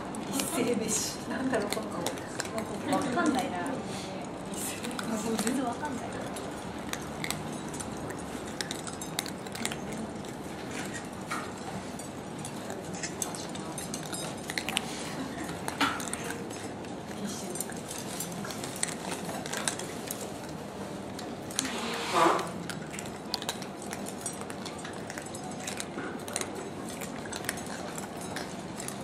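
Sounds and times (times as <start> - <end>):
metal bowls clinking: 4.6 - 29.0.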